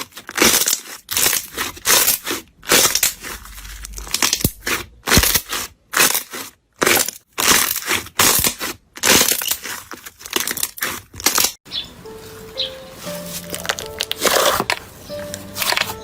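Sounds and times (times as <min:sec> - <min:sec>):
crunchy slime crackling: 0:00.0 - 0:11.6, 0:12.9 - 0:16.0.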